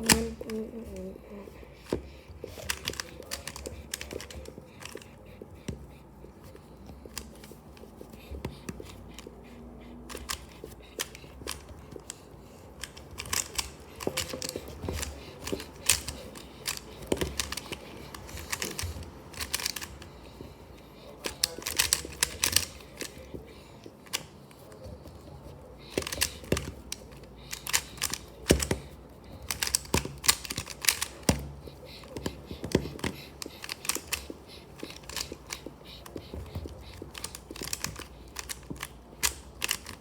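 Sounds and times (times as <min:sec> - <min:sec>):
puzzle cube plastic clicks: 0:01.8 - 0:05.7, 0:10.1 - 0:40.0.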